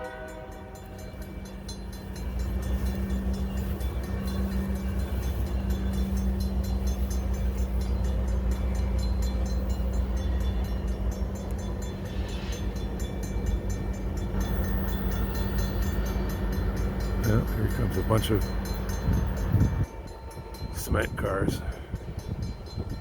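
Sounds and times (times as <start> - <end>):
diesel locomotive passing: 0.0 - 23.0.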